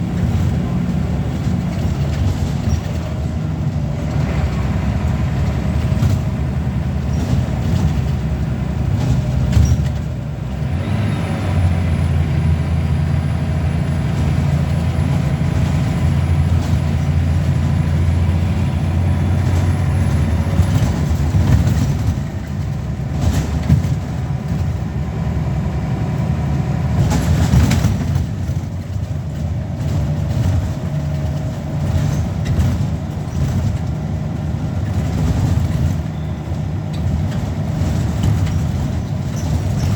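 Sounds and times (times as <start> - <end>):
bus diesel engine pulling: 0.0 - 39.9
knocks and rattles of bus body: 0.0 - 39.9.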